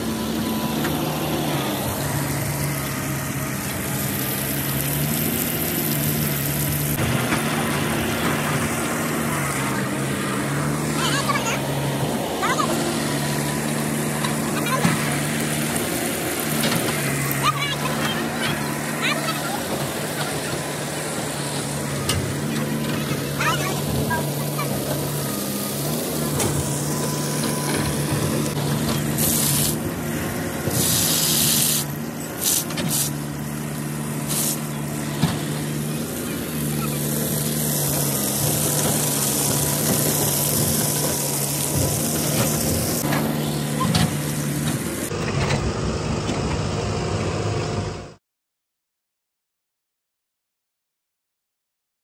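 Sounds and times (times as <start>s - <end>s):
water gushing from pump outlet: 0.0s - 45.1s.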